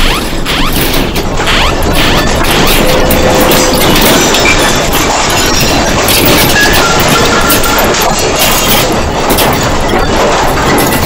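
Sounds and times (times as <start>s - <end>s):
early-warning alarm tones: 0.0s - 10.1s
building contents rattling and crashing: 0.0s - 11.0s.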